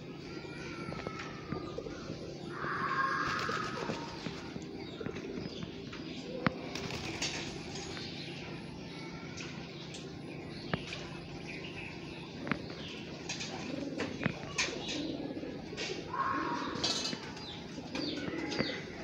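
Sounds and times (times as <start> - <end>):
pigeons cooing: 0.0 - 9.0, 9.9 - 19.0.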